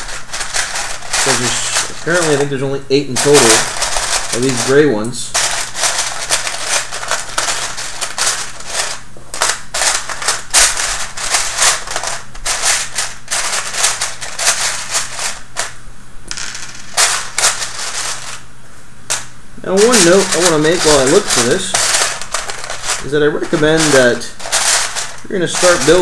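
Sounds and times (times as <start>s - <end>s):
plastic parts clattering and clicking: 0.0s - 15.7s, 16.3s - 18.4s, 19.8s - 26.0s.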